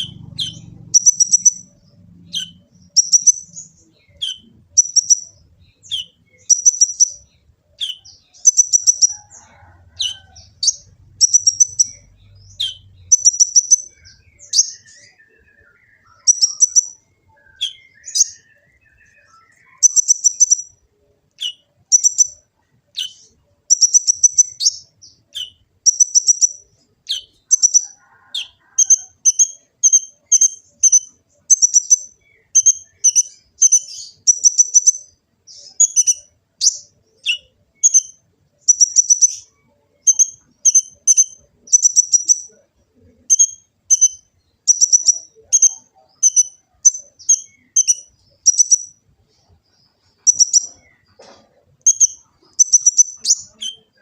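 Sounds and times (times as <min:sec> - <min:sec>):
sunbird high chittering song: 0:00.0 - 0:51.0, 0:51.8 - 0:54.0.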